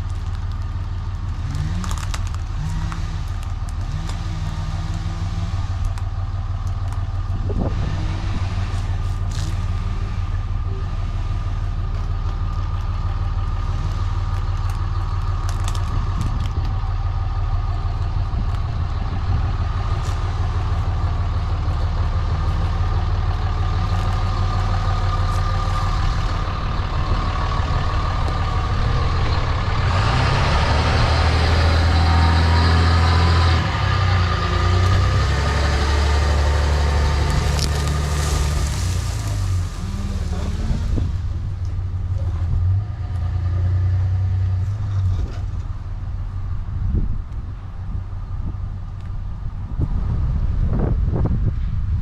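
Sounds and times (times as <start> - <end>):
large vehicle engine humming: 0.0 - 52.0.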